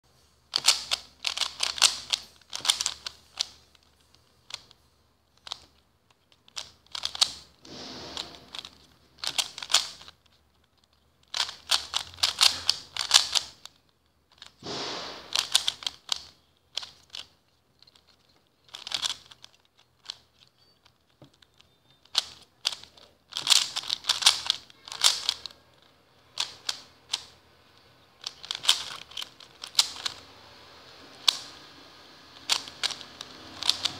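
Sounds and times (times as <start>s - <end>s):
plastic cube clicking: 0.5s - 33.9s.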